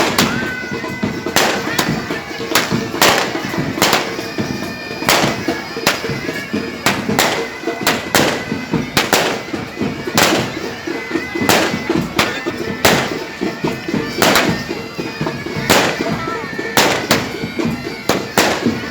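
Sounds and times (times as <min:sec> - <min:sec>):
fireworks banging: 0:00.0 - 0:18.9
wind band music: 0:00.0 - 0:18.9.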